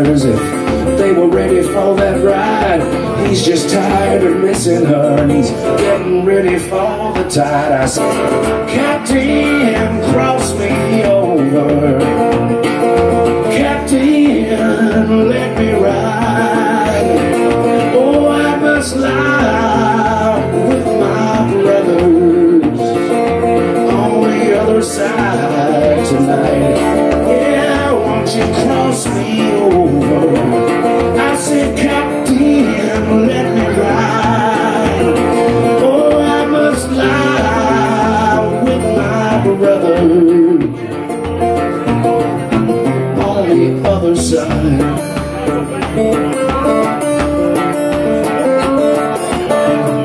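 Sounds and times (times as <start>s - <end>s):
blues guitar picking: 0.0s - 50.0s.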